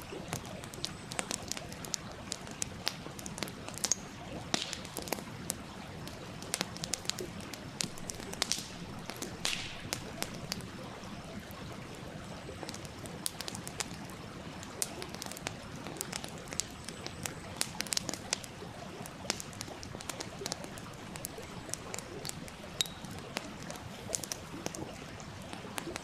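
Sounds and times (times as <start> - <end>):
campfire crackling: 0.0 - 26.0
fire hissing: 0.0 - 26.0.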